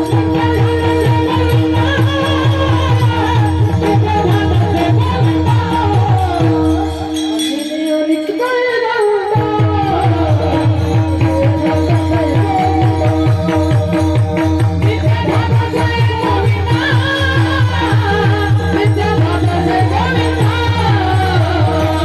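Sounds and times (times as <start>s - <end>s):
fast drum beat: 0.0s - 7.3s, 9.4s - 22.0s
man singing devotional melody: 0.0s - 22.0s.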